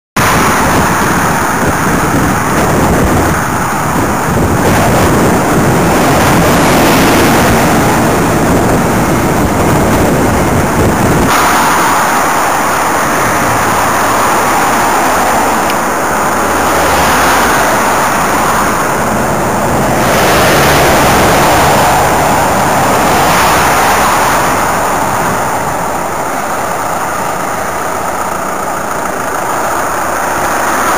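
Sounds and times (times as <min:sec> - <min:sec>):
traffic passing: 0:00.2 - 0:30.9
wind and road noise: 0:00.2 - 0:30.9.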